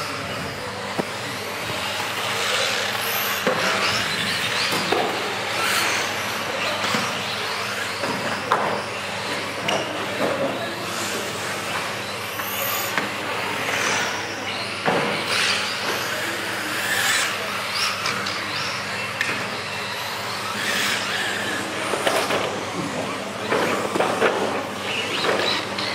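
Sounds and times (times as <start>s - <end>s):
model car motors whining: 0.0s - 25.9s.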